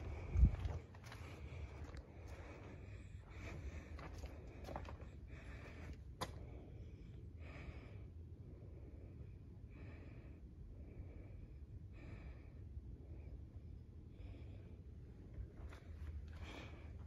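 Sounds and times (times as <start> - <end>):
low room hum: 0.0 - 17.0
soft breathing: 0.0 - 17.0.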